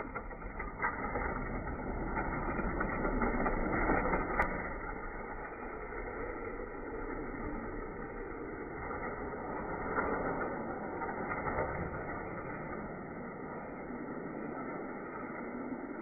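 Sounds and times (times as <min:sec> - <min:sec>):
toy cars rolling on plastic track: 0:00.0 - 0:16.0.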